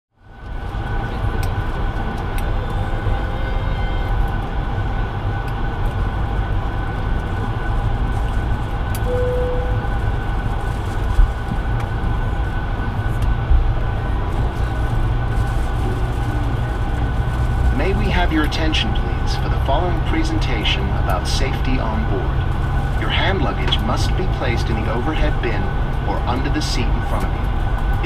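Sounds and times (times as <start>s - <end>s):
airliner cabin rumble: 0.2s - 28.0s
steady whining tones: 0.2s - 28.0s.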